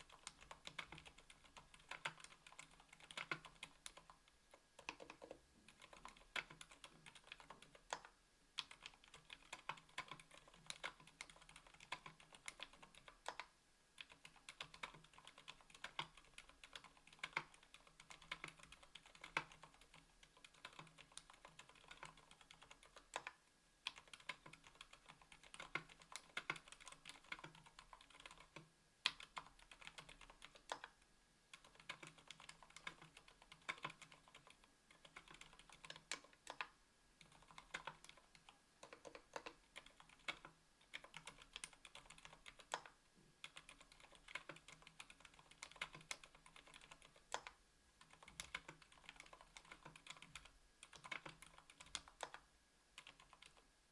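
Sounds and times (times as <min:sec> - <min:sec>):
fast keyboard typing: 0:00.0 - 0:53.7.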